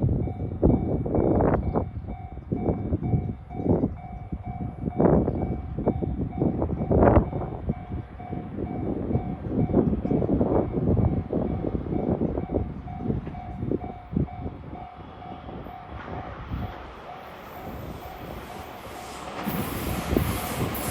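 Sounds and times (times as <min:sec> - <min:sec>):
train rumbling and clattering: 0:00.0 - 0:20.9
level-crossing warning bell: 0:00.1 - 0:20.9.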